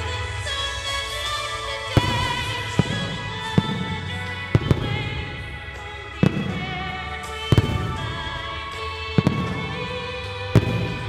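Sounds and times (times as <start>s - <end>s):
music with long held notes: 0.0s - 11.0s
firework shells bursting: 1.8s - 11.0s.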